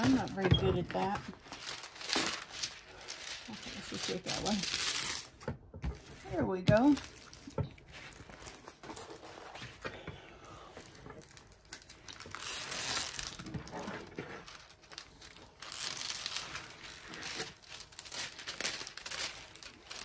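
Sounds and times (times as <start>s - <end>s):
plastic film crinkling: 0.0s - 9.9s, 10.6s - 20.0s.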